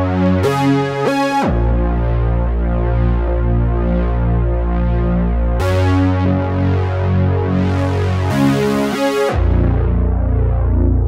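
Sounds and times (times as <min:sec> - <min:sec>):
synthesizer low notes: 0:00.0 - 0:11.0.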